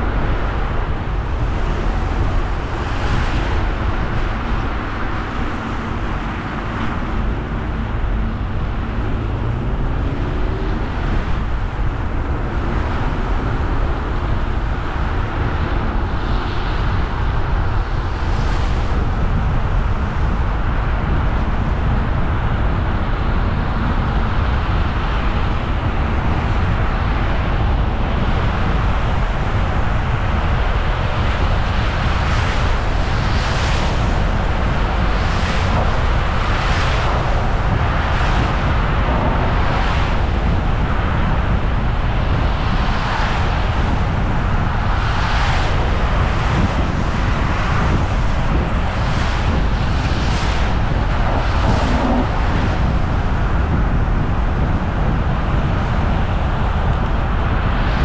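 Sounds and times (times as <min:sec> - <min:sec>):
car tyre and engine noise: 0:00.0 - 0:58.0.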